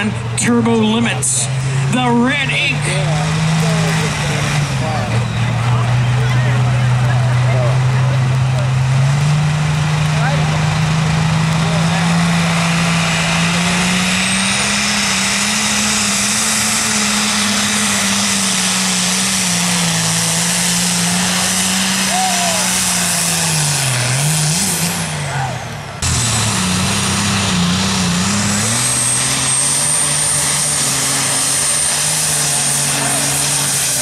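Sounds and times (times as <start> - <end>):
diesel tractor engine revving hard: 0.0 - 34.0.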